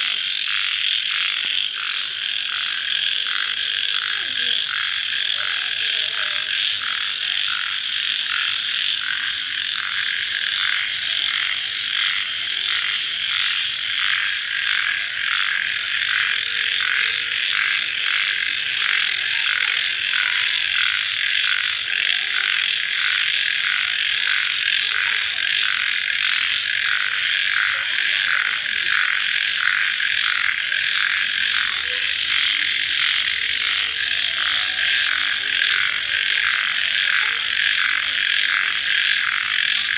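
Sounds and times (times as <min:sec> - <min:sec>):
night chorus of calling animals: 0:00.0 - 0:39.9.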